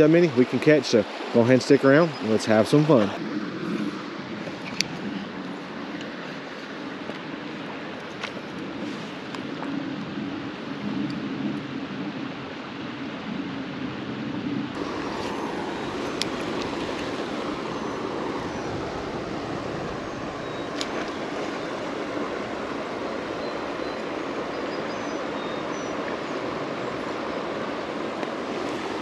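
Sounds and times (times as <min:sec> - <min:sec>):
creek water flowing: 0:00.0 - 0:10.8, 0:14.7 - 0:29.0.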